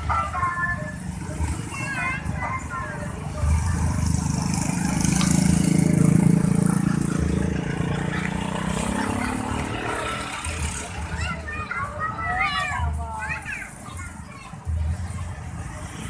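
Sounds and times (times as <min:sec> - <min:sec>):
scooter engines passing: 0:00.0 - 0:16.0
truck passing: 0:00.0 - 0:16.0.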